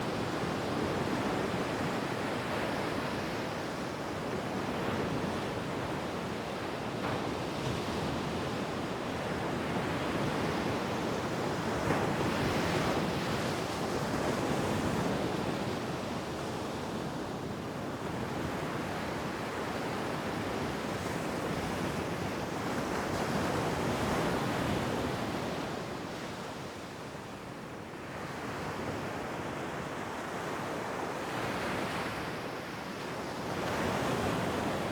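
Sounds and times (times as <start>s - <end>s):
waves breaking on a beach: 0.0s - 34.9s.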